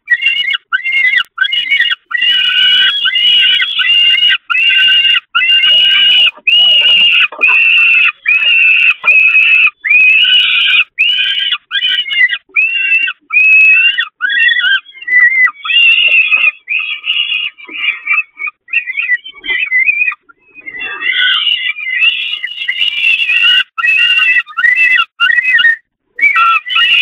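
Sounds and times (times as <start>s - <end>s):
falcon chicks begging calls: 0.0s - 27.0s.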